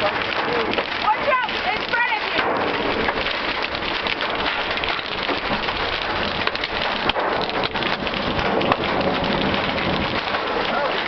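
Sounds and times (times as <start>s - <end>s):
hail pelting car roof: 0.0s - 11.0s.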